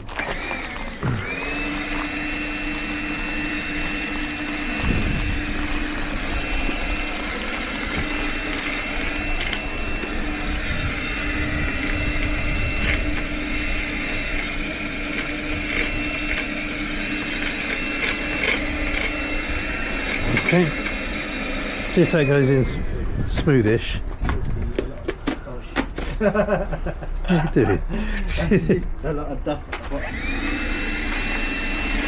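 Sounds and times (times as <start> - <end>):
electric motor running: 0.0 - 24.1, 29.8 - 32.0.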